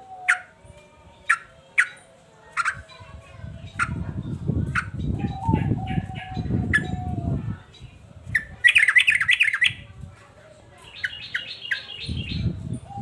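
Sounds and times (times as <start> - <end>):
bird chirping song: 0.0 - 9.8, 10.8 - 13.0.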